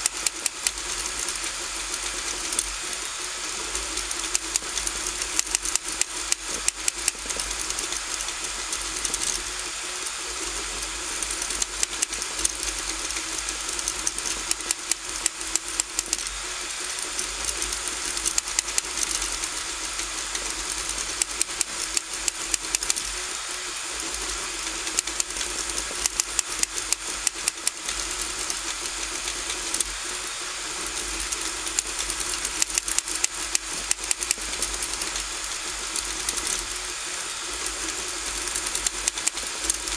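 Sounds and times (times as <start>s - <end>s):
stepper motors whirring: 0.0s - 9.8s, 10.4s - 39.9s
rapid sharp clicks: 0.0s - 39.9s.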